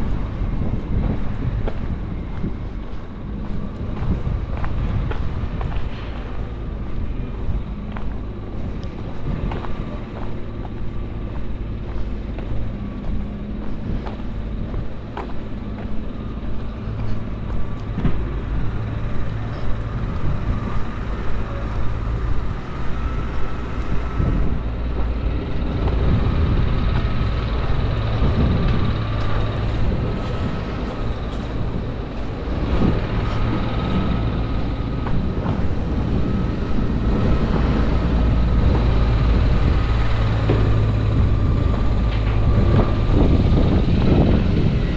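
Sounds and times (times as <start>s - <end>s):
heavy vehicle engine rumbling: 0.0s - 44.9s.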